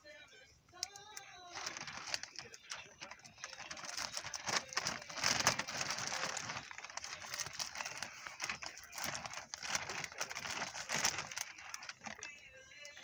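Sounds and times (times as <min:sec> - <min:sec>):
tarp rustling and crinkling: 0:01.5 - 0:13.0.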